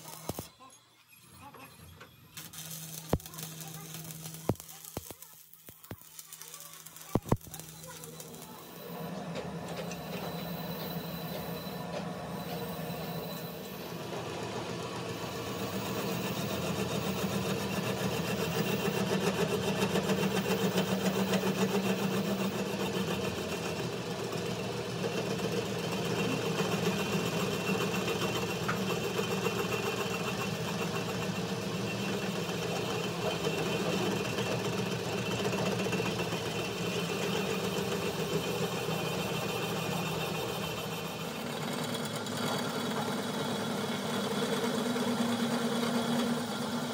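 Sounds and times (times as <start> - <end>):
metal lathe running: 6.4 - 46.9.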